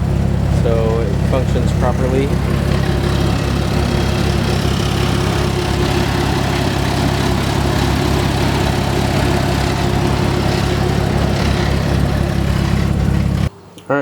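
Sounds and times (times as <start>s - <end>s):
car engine idling: 0.0s - 13.5s.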